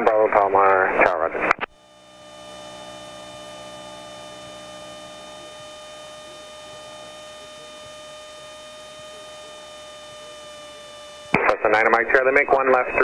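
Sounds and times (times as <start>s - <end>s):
electrical hum with high whine: 0.0s - 13.0s
lower hum: 0.4s - 13.0s.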